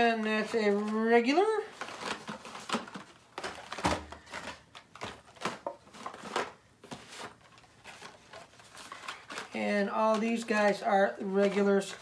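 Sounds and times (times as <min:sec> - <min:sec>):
plastic packaging clicks and crinkles: 0:00.0 - 0:12.0.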